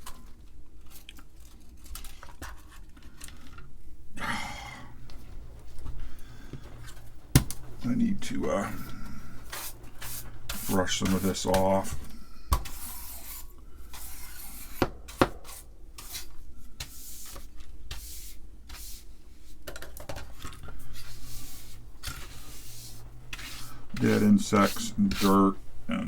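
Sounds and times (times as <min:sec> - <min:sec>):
brush scrubbing: 0:04.0 - 0:19.6, 0:20.2 - 0:26.0.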